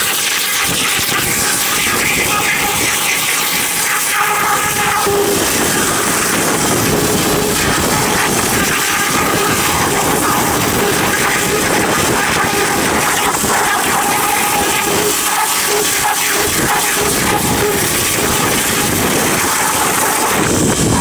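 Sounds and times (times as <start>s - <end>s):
pressure washer water jet hiss: 0.0s - 21.0s.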